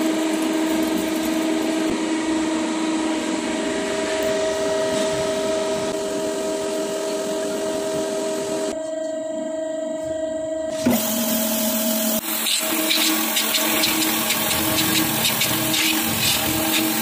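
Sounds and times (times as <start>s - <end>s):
grinding machine humming: 0.0s - 17.0s.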